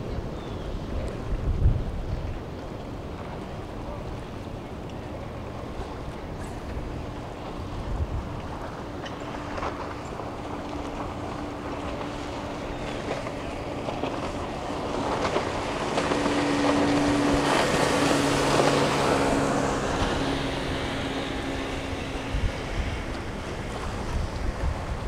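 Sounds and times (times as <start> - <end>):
boat engine hum: 0.0 - 25.0
rushing water: 0.0 - 25.0
wind: 0.0 - 25.0.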